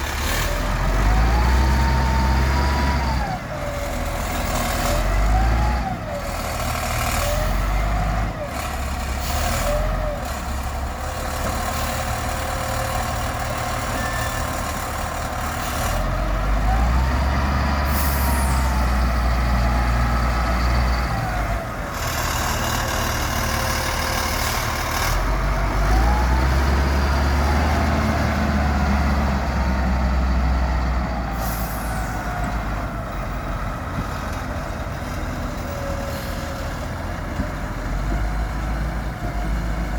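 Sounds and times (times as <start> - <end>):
diesel engines working: 0.0 - 39.9.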